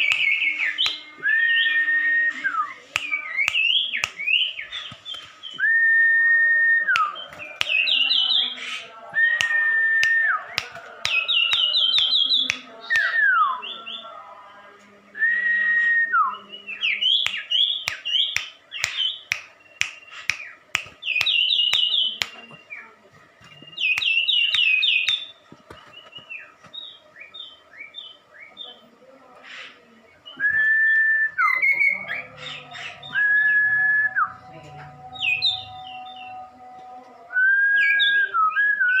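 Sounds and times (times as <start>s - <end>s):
songbird singing whistled phrases: 0.0s - 14.1s, 15.2s - 28.8s, 30.2s - 34.4s, 35.2s - 36.5s, 37.4s - 39.0s.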